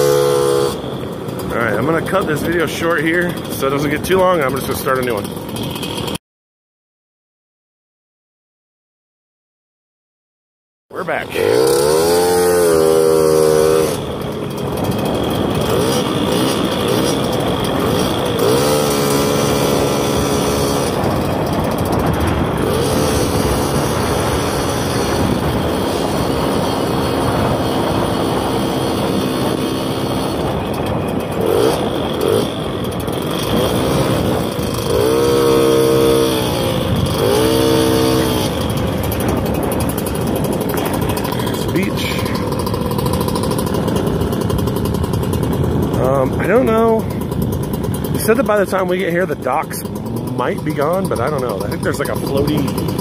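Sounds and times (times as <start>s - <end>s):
small motorbike engine revving: 0.0s - 6.2s, 11.0s - 53.0s.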